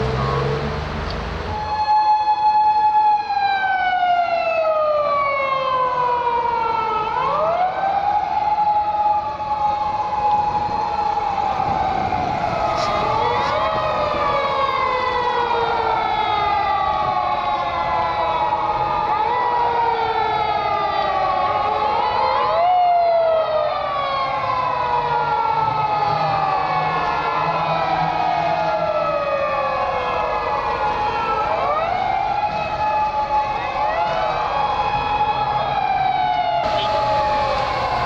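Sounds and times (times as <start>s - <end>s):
emergency siren wailing: 0.0s - 38.0s
second siren: 0.0s - 38.0s.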